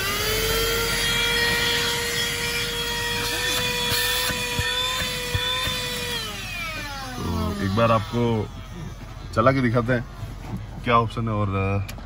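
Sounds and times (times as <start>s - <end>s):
vacuum cleaner motor whining: 0.0s - 9.9s.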